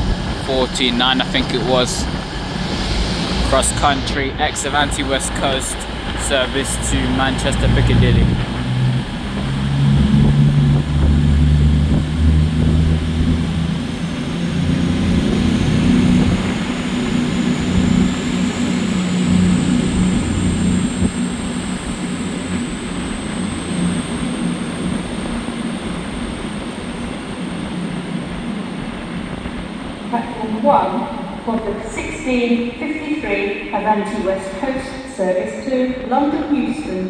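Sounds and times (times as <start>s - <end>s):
high whine rising: 0.0s - 34.8s
train diesel engines: 0.0s - 37.0s.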